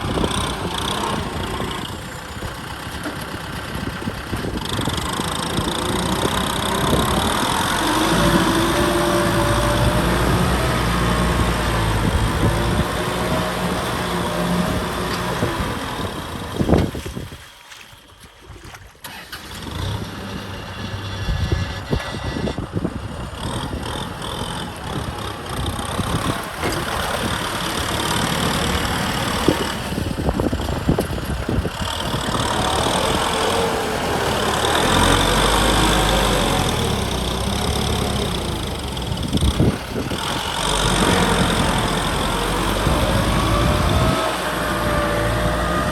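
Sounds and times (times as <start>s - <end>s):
diesel tractor engine running: 0.0s - 17.4s, 19.0s - 45.9s.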